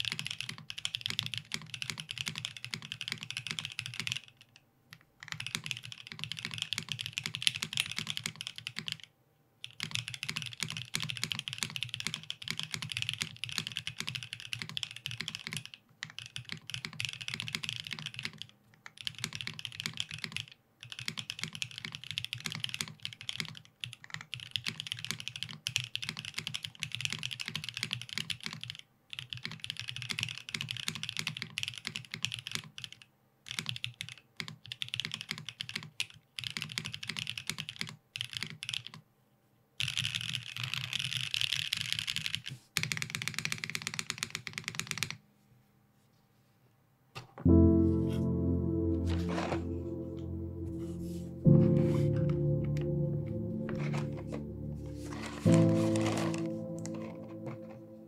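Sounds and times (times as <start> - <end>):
mechanical keyboard typing: 0.0 - 39.0, 39.8 - 45.2, 53.6 - 58.0.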